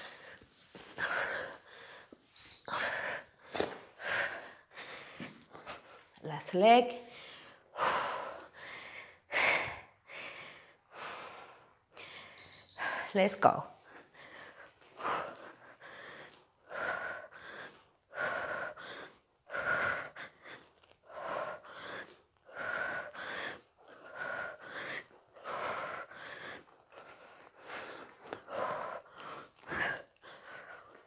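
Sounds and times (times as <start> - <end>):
woman breathing hard: 0.0 - 6.2, 7.0 - 13.2, 13.8 - 31.0.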